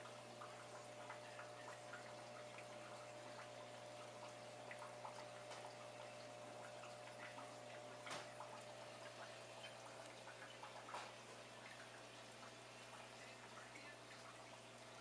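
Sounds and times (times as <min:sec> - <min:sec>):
aquarium filter pump hum: 0:00.0 - 0:15.0
water drips: 0:00.0 - 0:15.0.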